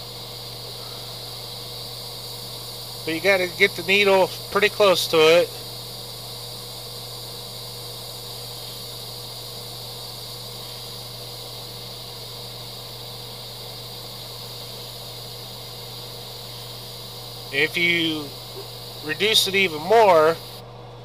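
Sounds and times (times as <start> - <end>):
airbrush air hiss: 0.0 - 20.6.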